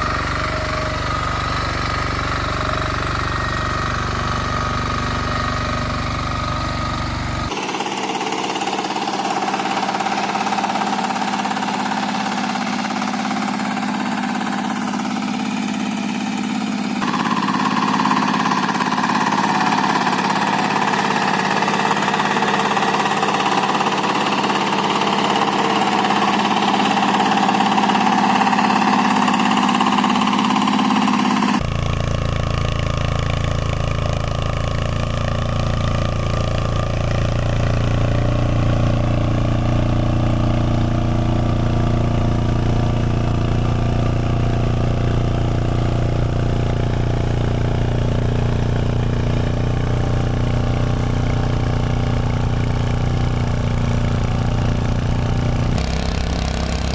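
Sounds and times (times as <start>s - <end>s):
low engine hum: 0.0s - 56.9s
rough engine running: 0.0s - 56.9s.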